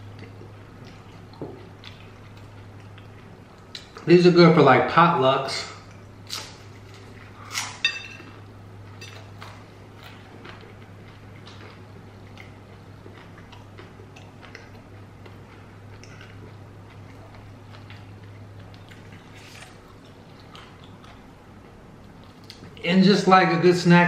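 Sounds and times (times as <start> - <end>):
chewing with faint crackles: 0.0 - 4.4, 5.4 - 22.9
low steady hum: 0.0 - 24.0.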